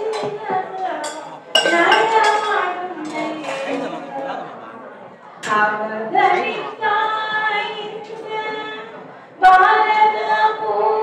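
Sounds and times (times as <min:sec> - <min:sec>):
woman singing unaccompanied: 0:00.0 - 0:03.8, 0:05.4 - 0:11.0.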